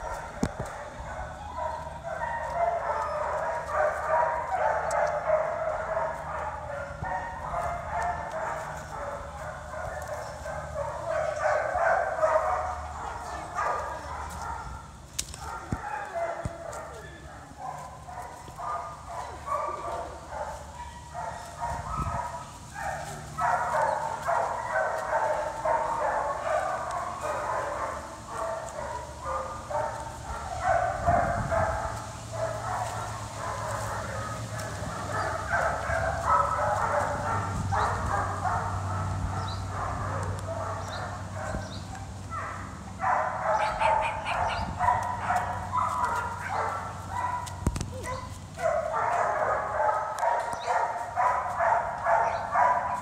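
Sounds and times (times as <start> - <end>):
many dogs barking: 0.0 - 53.0.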